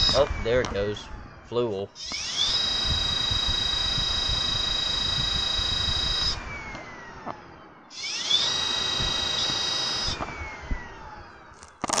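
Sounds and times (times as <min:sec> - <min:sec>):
electric motor whine: 0:00.0 - 0:01.4, 0:02.0 - 0:12.0
low mechanical rumble: 0:00.0 - 0:11.8.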